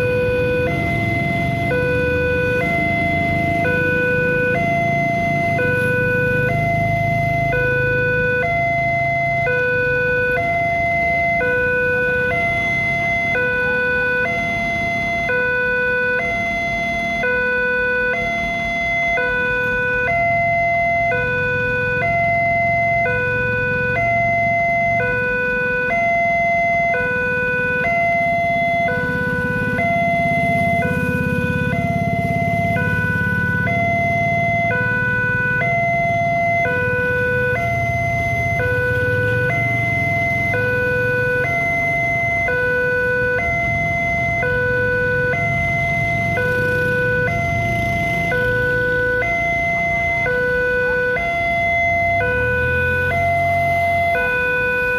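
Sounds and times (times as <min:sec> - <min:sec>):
two-tone crossing alarm: 0:00.0 - 0:54.9.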